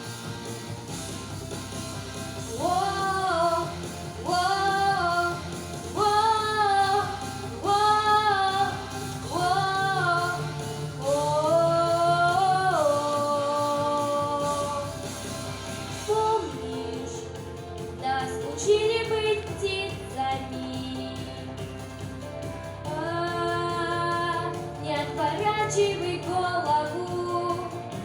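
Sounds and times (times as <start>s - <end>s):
girl singing: 2.5s - 15.0s, 16.0s - 21.5s, 22.9s - 27.9s.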